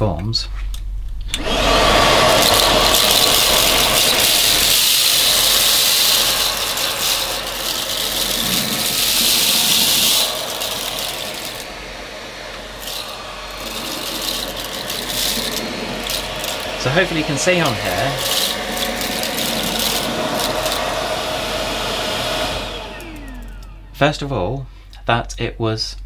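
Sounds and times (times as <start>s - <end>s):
cordless vacuum running: 1.3s - 24.6s
vacuum sucking up rice: 1.4s - 24.1s.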